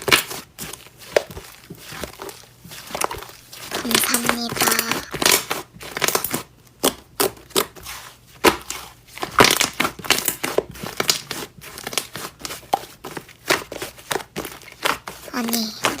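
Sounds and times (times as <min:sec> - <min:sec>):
slime squished by hand: 0:00.0 - 0:16.0.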